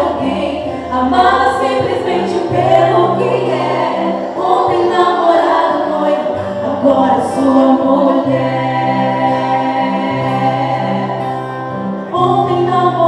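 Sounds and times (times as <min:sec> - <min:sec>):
choir singing in harmony: 0:00.0 - 0:13.0.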